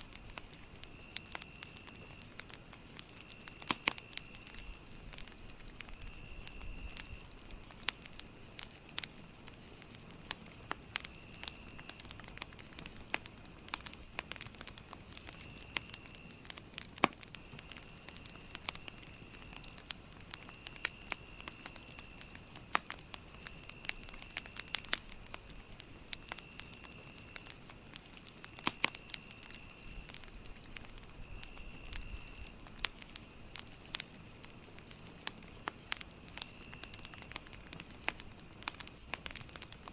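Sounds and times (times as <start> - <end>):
campfire crackling and popping: 0.0 - 39.9
insect chirping in steady pulse: 0.0 - 39.9
insect trill: 0.1 - 39.9.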